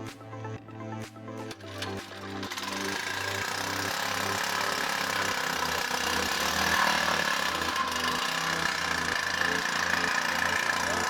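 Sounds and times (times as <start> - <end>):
engine-driven water pump running: 1.4 - 11.0.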